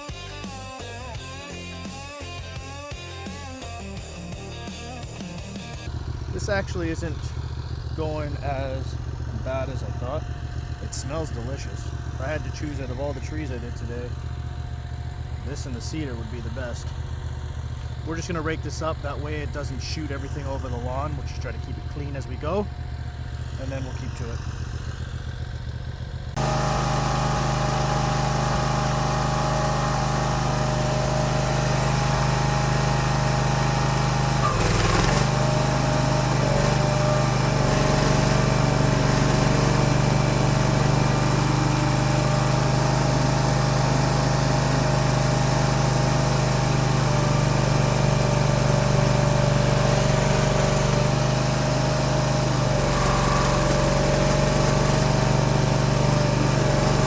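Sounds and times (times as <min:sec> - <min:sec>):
stump grinder engine running: 0:05.1 - 0:57.0.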